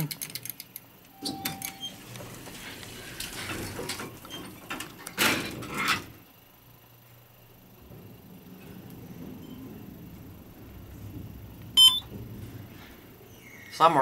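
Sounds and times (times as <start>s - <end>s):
faint low hum: 0.0s - 14.0s
elevator doors rattling closed: 1.2s - 14.0s.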